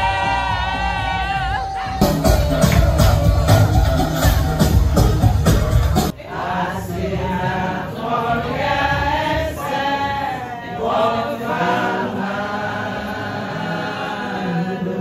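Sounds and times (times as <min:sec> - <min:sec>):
group singing a cappella: 0:00.0 - 0:15.0.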